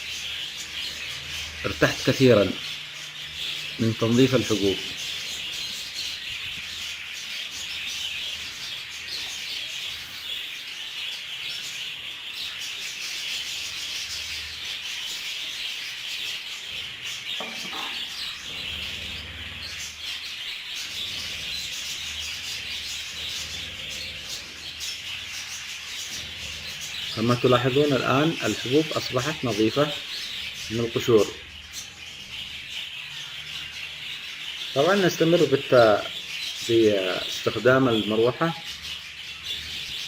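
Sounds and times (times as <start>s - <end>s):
budgerigars chirping: 0.0s - 40.0s
small fan blowing seed husks: 0.0s - 40.0s.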